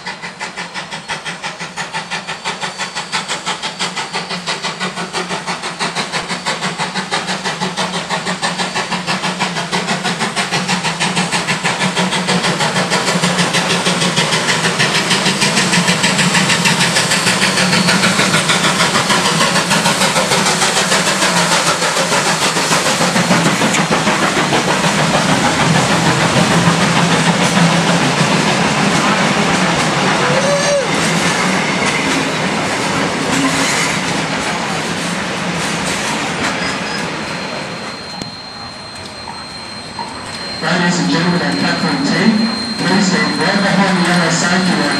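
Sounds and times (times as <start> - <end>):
steam hiss: 0.0 - 38.5
steam locomotive exhaust beat: 0.0 - 44.9.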